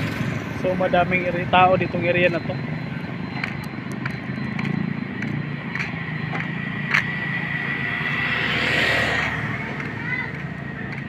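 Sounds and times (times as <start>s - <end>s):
steady high tone: 0.0s - 11.0s
vehicle engine running: 0.0s - 11.0s.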